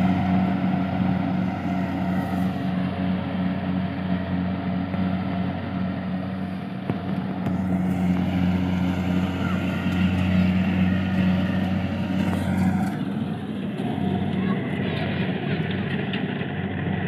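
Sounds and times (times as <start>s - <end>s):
small engine running steadily: 0.0s - 17.0s.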